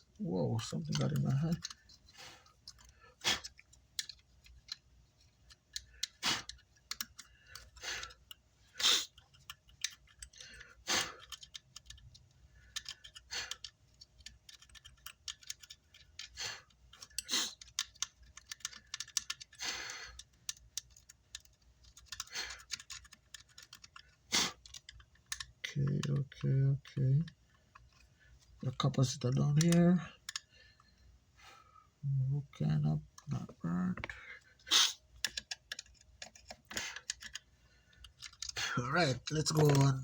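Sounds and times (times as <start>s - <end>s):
tools clicking and tapping: 0.6s - 8.4s, 9.1s - 28.1s, 28.9s - 30.5s, 35.2s - 40.0s.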